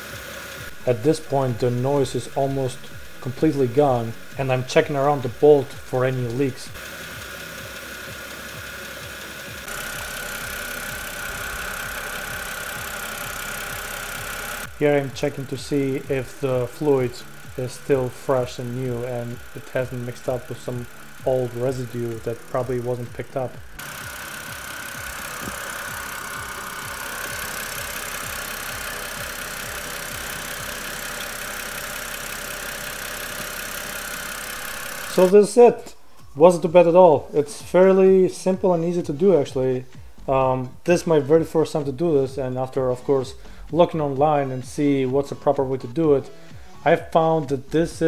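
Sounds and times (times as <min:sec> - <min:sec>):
power steering whine: 0:00.0 - 0:47.9
car engine idling: 0:00.0 - 0:48.0.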